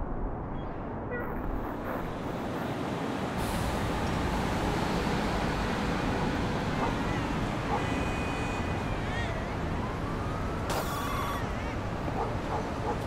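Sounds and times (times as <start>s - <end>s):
street traffic: 1.4s - 13.0s.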